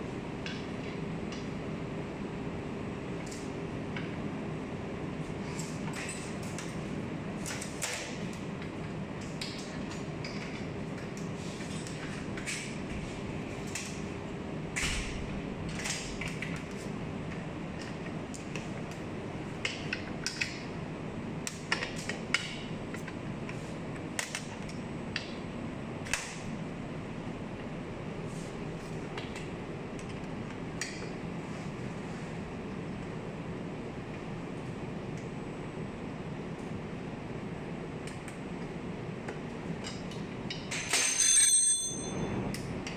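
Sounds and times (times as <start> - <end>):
steady room hum: 0.0 - 42.9.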